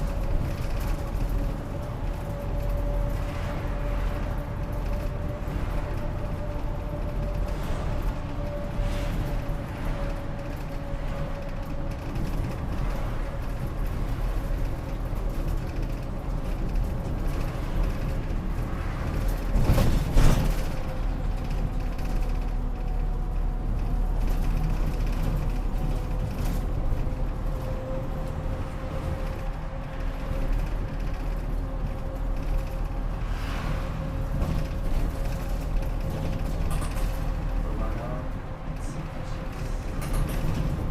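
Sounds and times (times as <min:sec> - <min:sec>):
body creaks and rattles: 0:00.0 - 0:40.9
bus engine rumble and whine: 0:00.0 - 0:40.9.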